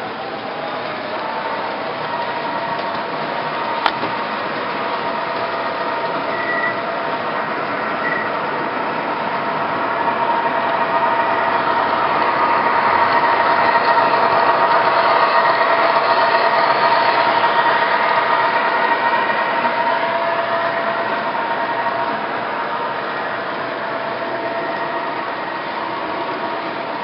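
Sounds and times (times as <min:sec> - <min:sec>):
model train motors whirring: 0:00.0 - 0:27.0.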